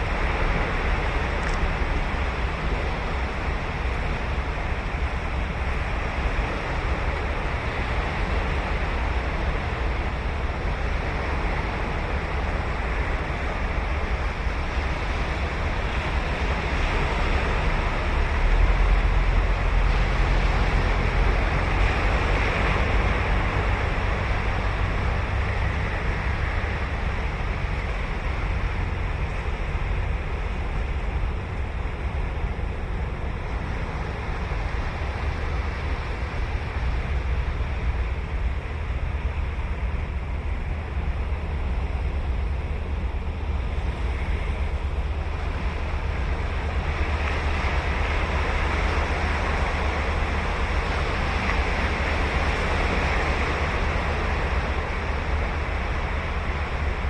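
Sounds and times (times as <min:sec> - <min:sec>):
ocean surf breaking on beach: 0:00.0 - 0:57.0
wind rumble on microphone: 0:00.0 - 0:57.0.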